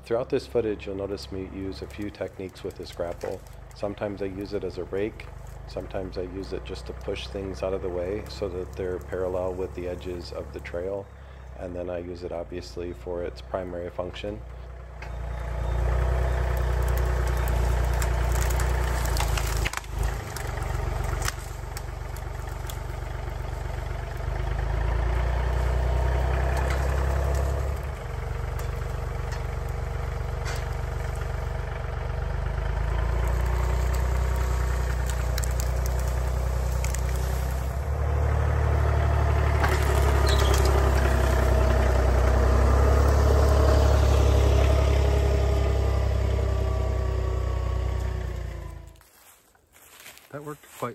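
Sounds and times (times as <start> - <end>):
tree dragged through brush: 0.0 - 13.8, 14.4 - 50.9
tractor diesel engine running: 0.0 - 50.9
branches cracking and snapping: 0.6 - 11.5, 15.0 - 50.9.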